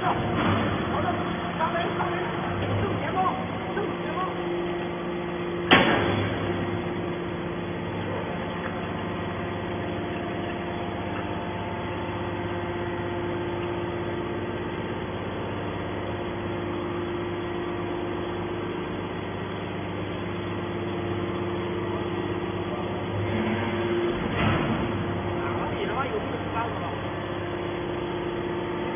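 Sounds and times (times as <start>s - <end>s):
hydraulic machine hum and whine: 0.0s - 28.9s.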